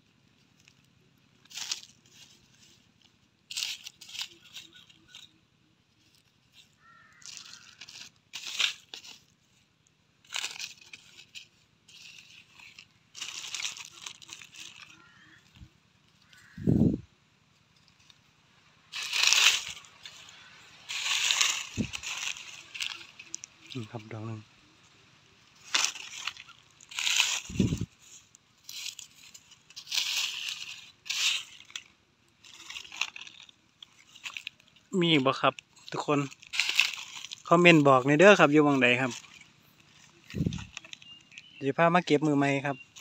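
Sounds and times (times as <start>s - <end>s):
hand rustling dry leaves: 0.0s - 43.0s.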